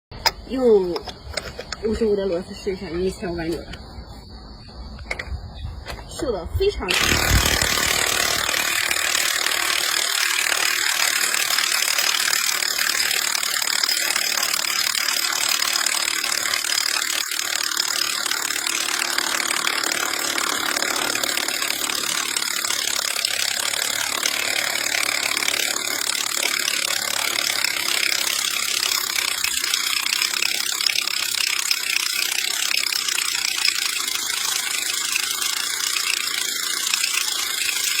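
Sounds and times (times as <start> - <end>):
impact wrench rattling: 6.9 - 38.0.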